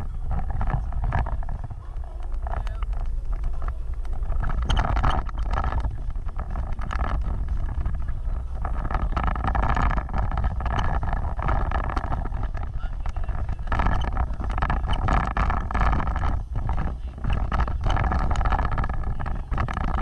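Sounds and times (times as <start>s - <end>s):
knocks and rattles: 0.0s - 20.0s
off-road vehicle rumbling: 0.0s - 20.0s
wind buffeting microphone: 0.0s - 20.0s.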